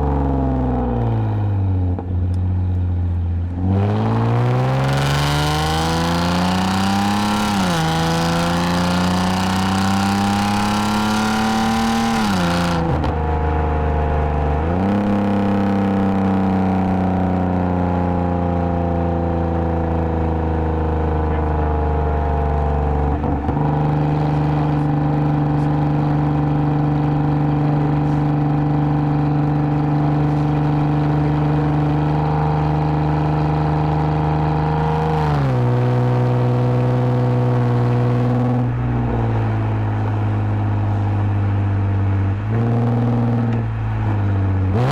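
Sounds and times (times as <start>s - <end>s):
car engine revving through exhaust: 0.0s - 44.9s.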